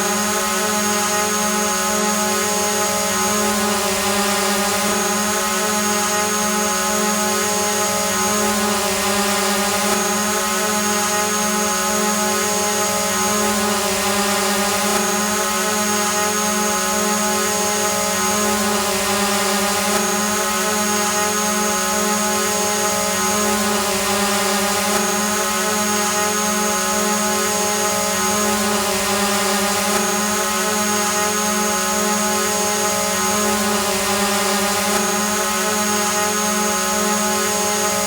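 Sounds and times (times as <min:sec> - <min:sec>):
drone propeller hum: 0:00.0 - 0:38.0.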